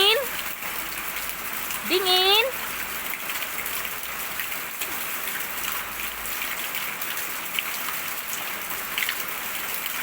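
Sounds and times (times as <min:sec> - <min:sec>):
drips and splashes: 0:00.0 - 0:10.0
rain pattering: 0:00.0 - 0:10.0.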